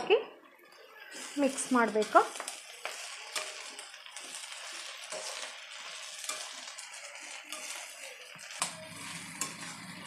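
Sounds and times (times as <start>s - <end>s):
food sizzling in hot oil: 0.0s - 10.0s
spatula scraping metal pan: 1.1s - 10.0s.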